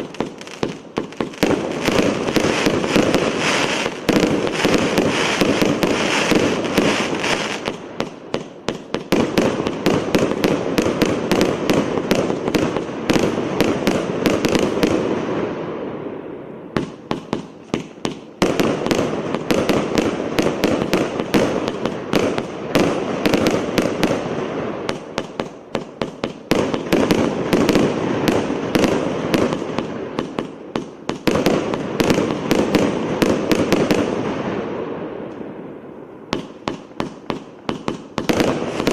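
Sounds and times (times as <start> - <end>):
fireworks firing rapid volleys: 0.0 - 16.0, 16.7 - 35.4, 36.2 - 38.9
crackle of bursting fireworks: 0.0 - 38.9.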